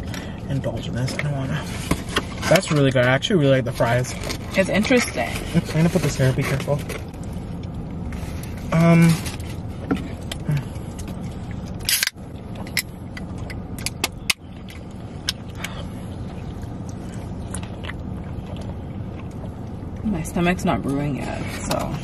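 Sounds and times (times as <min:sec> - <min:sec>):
car cabin hum: 0:00.0 - 0:22.0.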